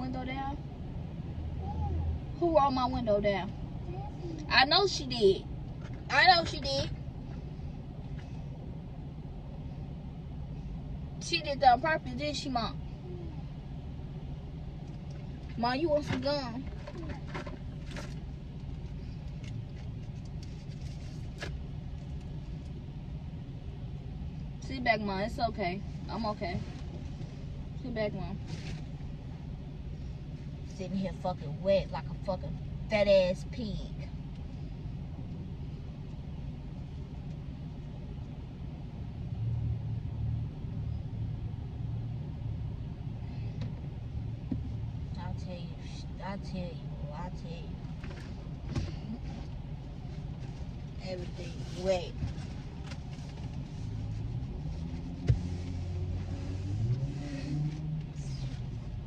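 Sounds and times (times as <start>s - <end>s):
car rumble from inside cabin: 0.0s - 59.0s.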